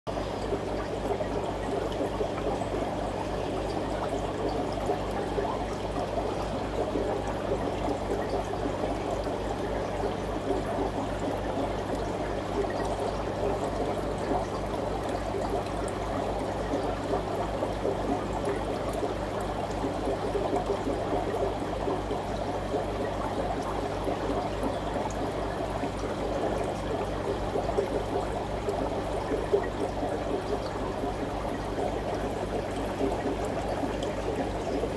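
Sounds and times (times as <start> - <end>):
aquarium water trickling and bubbling: 0.1 - 34.9
low steady hum: 0.1 - 34.9.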